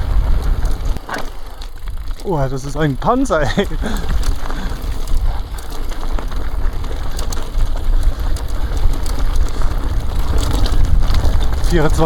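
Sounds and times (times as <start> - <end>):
bike rattling and clicking: 0.0 - 12.0
wind rumbling on microphone: 0.0 - 12.0.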